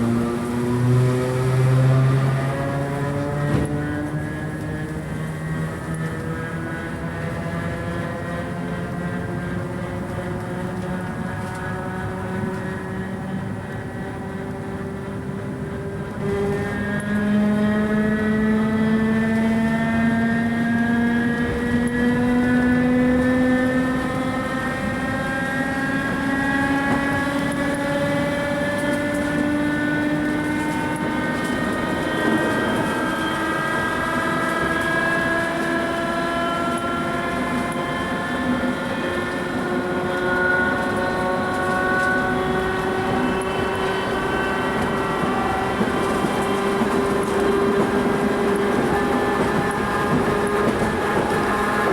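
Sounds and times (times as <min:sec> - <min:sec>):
electric train motors whining: 0:00.0 - 0:51.9
train rumble: 0:00.0 - 0:51.9.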